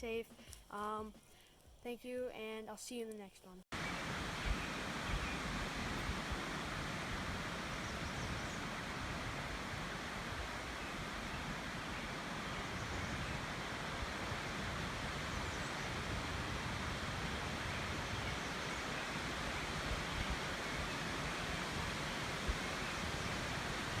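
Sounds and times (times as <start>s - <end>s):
wind rumbling on microphone: 3.8s - 24.0s.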